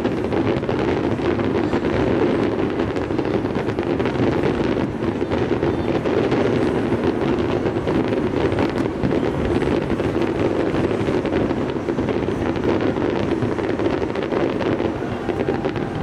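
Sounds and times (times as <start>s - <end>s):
fireworks crackling: 0.0s - 16.0s
wind over microphone: 0.0s - 16.0s.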